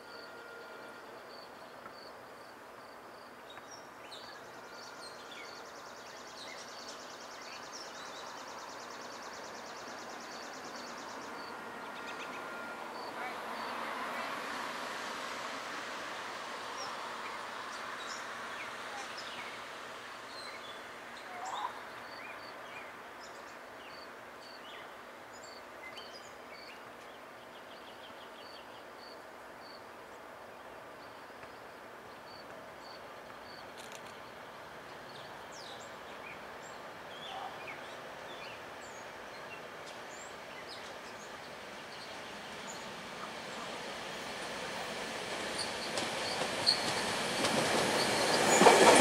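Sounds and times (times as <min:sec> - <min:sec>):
steady outdoor hum: 0:00.0 - 0:48.0
faint electric train: 0:00.0 - 0:49.0.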